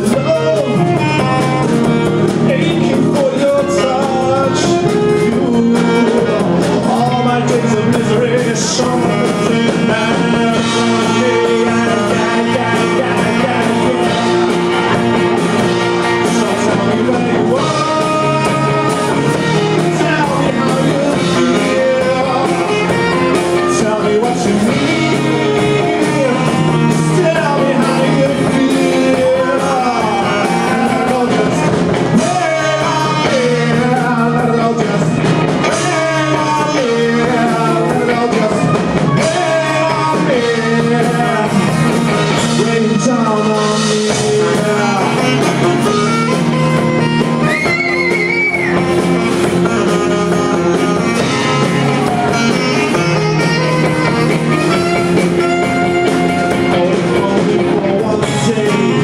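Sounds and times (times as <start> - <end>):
live rock band playing: 0.0 - 59.0
man singing: 0.0 - 59.0.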